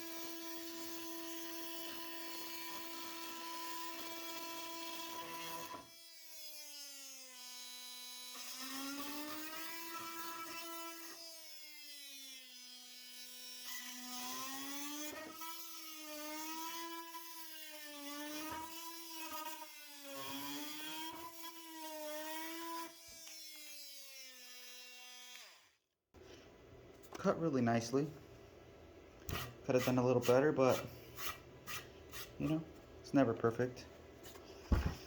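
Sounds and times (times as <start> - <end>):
oscillating multi-tool cutting wood: 0.0 - 25.8, 29.3 - 32.6.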